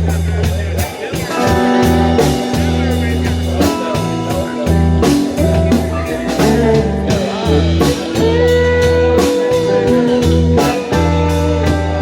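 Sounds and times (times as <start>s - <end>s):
bass and drums: 0.0s - 12.0s
blues guitar: 0.0s - 12.0s.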